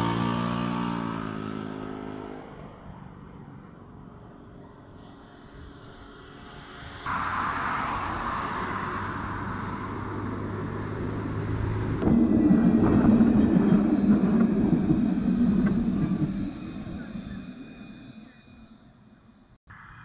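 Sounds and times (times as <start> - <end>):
rail yard hum and rumble: 0.0 - 20.0
tram passing: 0.0 - 20.0.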